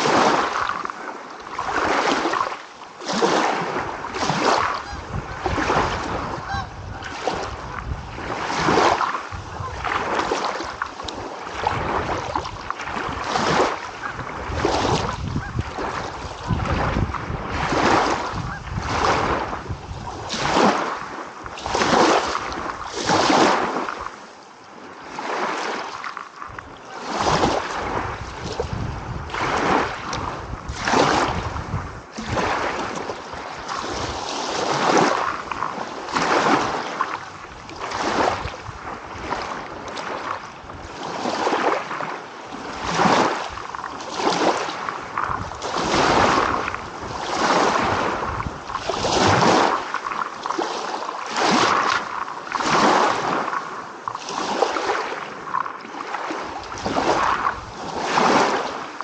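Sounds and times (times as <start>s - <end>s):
small waves washing in: 0.0s - 59.0s.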